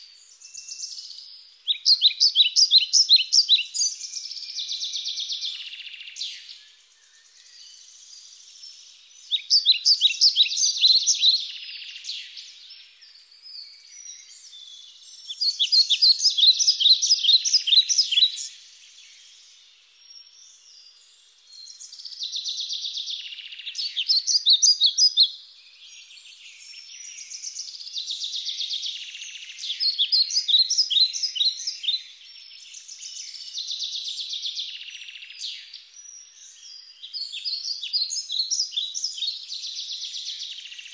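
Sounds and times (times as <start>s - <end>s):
soft bird twittering: 0.0s - 40.9s
songbirds chirping: 0.0s - 40.9s.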